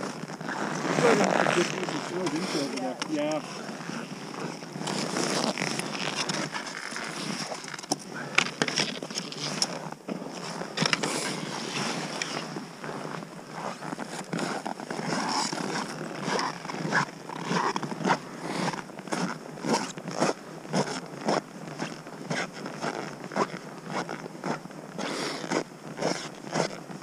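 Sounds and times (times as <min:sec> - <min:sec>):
jacket and gear rustling: 0:00.0 - 0:27.0
skis crunching in snow: 0:00.0 - 0:27.0.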